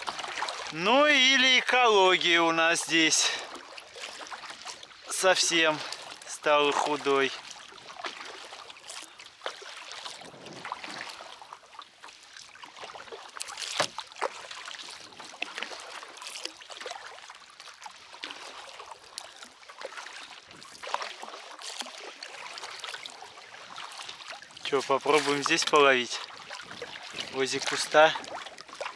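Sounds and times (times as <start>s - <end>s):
water trickling and splashing: 0.0s - 28.9s.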